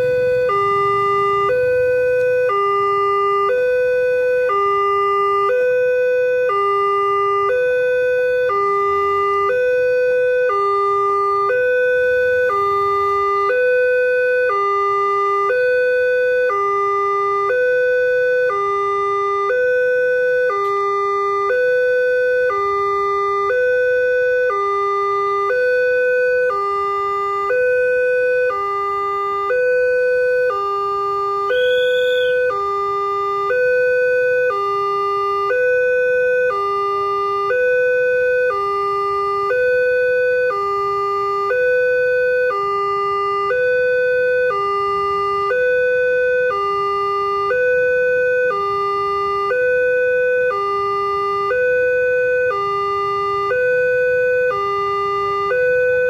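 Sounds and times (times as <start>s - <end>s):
level crossing two-tone alarm: 0.0s - 56.0s.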